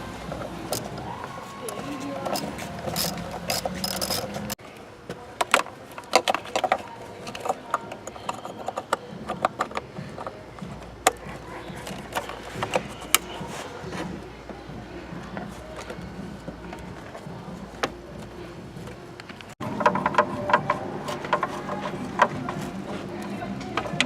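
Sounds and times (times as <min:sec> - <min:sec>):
background noise: 0:00.0 - 0:24.0.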